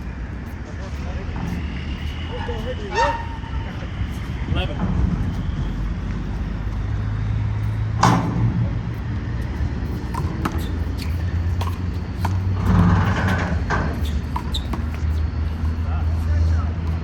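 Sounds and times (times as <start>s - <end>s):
low rumble of city traffic: 0.0s - 17.0s.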